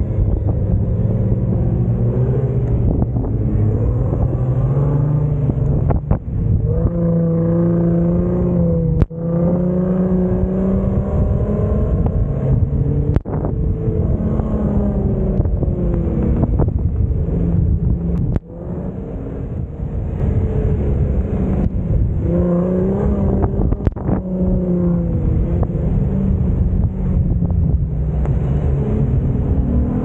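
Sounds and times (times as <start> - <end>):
engine revving: 0.0 - 30.0
wind rumble on microphone: 0.0 - 30.0.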